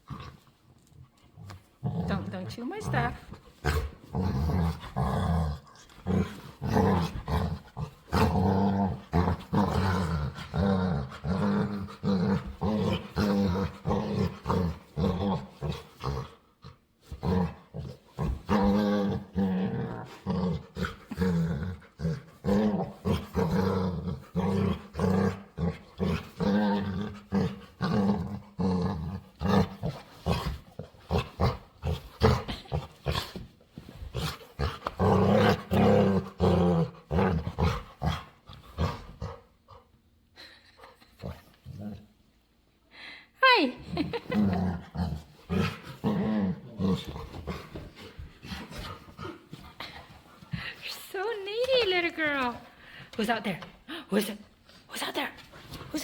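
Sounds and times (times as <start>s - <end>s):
dog growling playfully: 0.0s - 42.2s, 43.7s - 50.9s.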